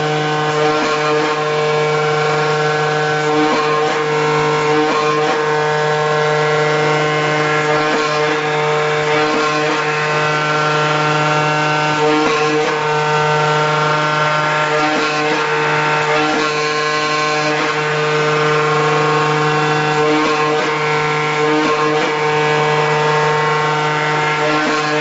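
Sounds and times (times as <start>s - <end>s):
cutting machine humming: 0.0s - 25.0s.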